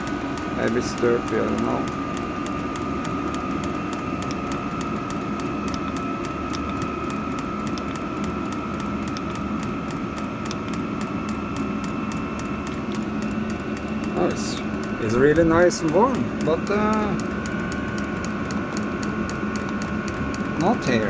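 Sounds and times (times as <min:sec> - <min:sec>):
fuel pump ticking: 0:00.0 - 0:11.9, 0:12.6 - 0:21.0
heater fan whir: 0:00.0 - 0:21.0
high steady whine: 0:00.0 - 0:21.0.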